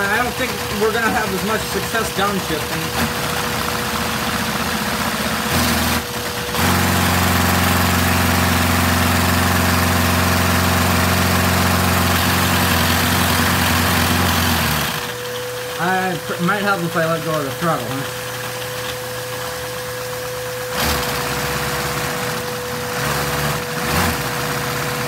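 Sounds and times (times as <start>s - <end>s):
vacuum-powered engine hissing: 0.0s - 7.7s, 12.0s - 25.0s.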